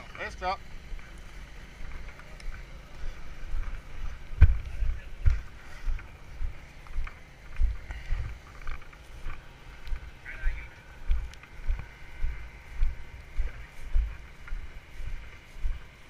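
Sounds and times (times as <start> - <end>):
footsteps through wet grass: 0.6 - 16.0.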